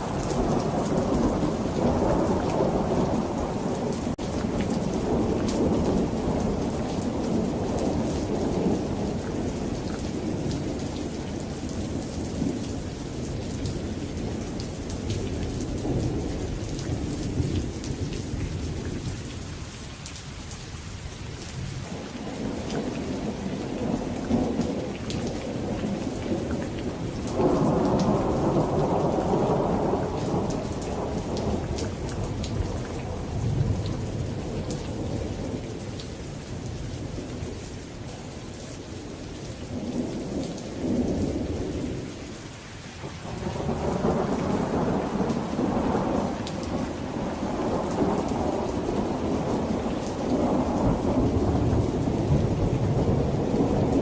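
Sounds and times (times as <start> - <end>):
thunder rumbling: 0.0 - 19.1, 21.6 - 35.8, 43.2 - 54.0
steady rain: 0.0 - 54.0.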